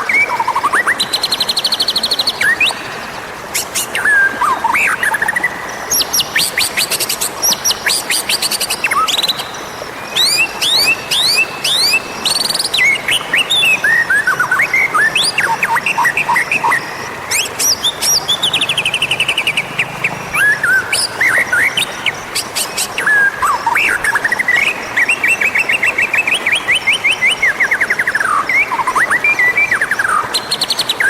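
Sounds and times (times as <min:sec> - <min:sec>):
bird singing whistles and trills: 0:00.0 - 0:31.0.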